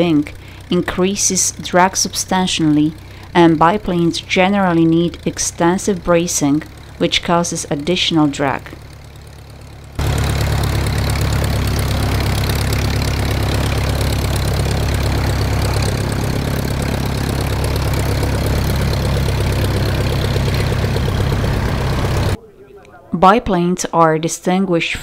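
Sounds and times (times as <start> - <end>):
propeller plane engine idling: 0.0 - 22.4.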